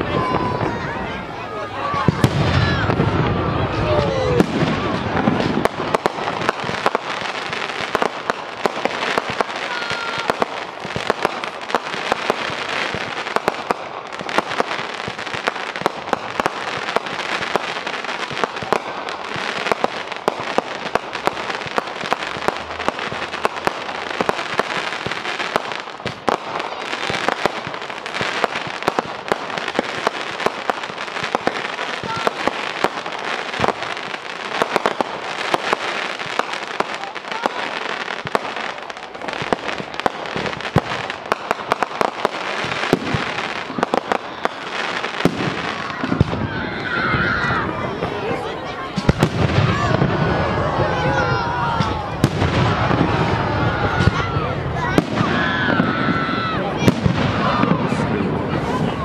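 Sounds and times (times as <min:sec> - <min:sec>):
fireworks crackling: 0:00.0 - 0:59.0
sharp firework reports: 0:00.0 - 0:59.0.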